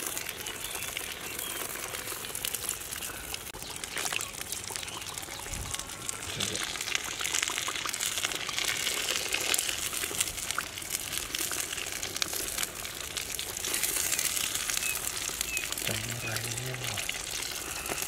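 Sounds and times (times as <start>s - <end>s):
dense crackling: 0.0s - 18.0s
wet sloppy sounds: 0.1s - 18.0s.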